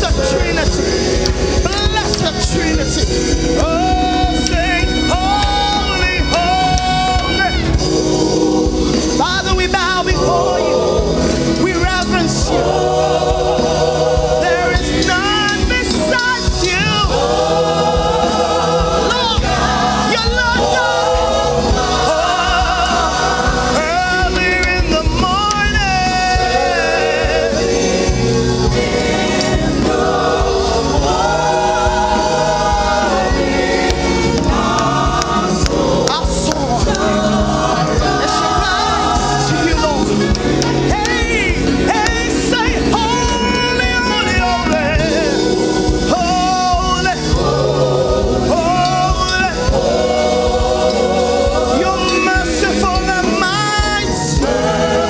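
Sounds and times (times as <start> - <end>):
band accompaniment: 0.0 - 55.0
gospel choir singing: 0.0 - 55.0.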